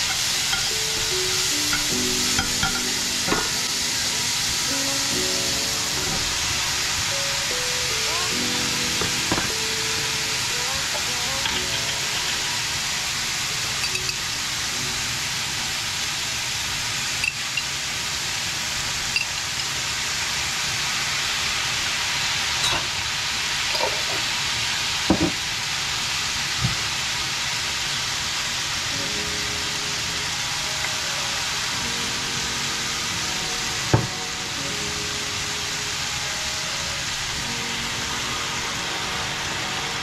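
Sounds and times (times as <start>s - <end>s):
food sizzling in a skillet: 0.0s - 40.0s.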